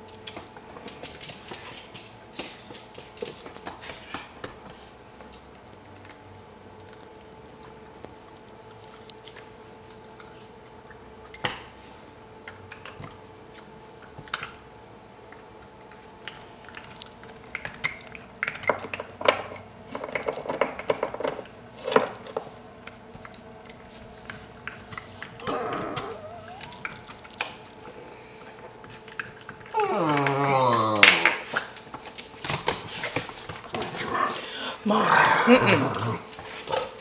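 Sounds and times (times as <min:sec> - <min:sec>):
dog gnawing a hard chew: 0:00.0 - 0:34.2.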